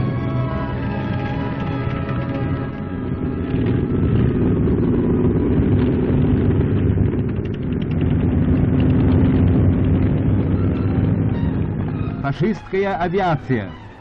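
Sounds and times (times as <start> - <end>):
low rumble of trucks: 0.0 - 14.0.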